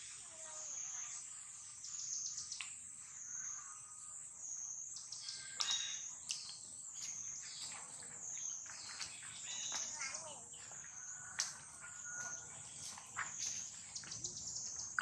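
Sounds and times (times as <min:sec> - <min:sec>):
chorus of birds and insects: 0:00.0 - 0:15.0.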